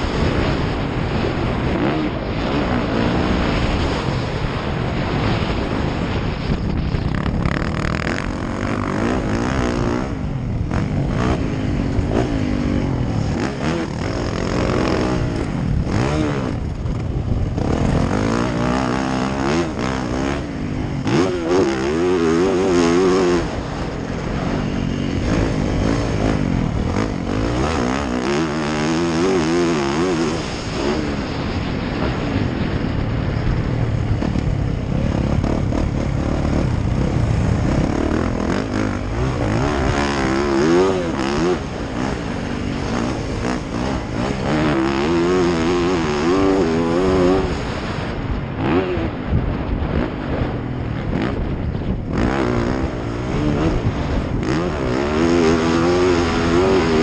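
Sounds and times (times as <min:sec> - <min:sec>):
dirt bike engine revving: 0:00.0 - 0:57.0
rough wind noise: 0:00.0 - 0:57.0.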